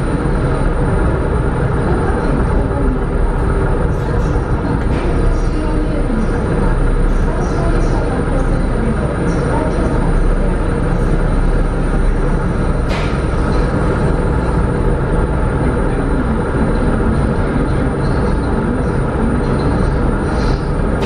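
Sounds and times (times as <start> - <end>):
ship engines rumbling: 0.0 - 21.0.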